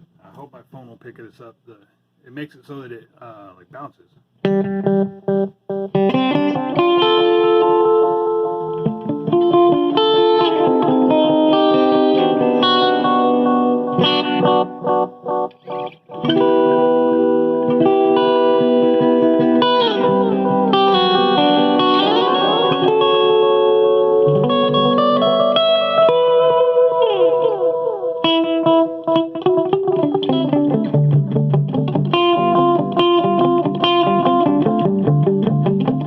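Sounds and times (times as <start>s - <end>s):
electric guitar with delay echoes: 4.4s - 36.0s.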